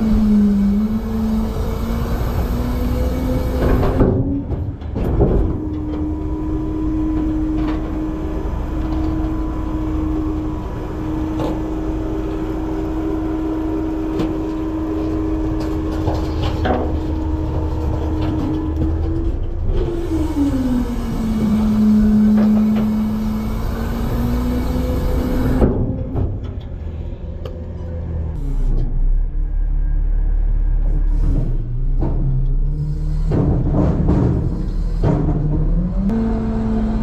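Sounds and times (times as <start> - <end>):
garbage truck engine and hydraulics: 0.0 - 37.0
trash knocking and creaking: 3.0 - 23.6, 24.2 - 28.3, 30.8 - 36.1.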